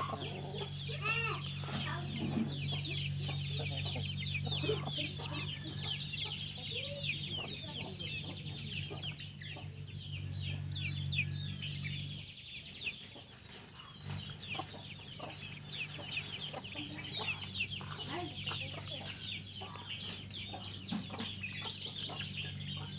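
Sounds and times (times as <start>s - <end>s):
small birds chirping: 0.0s - 22.9s
steady low hum: 0.0s - 22.9s.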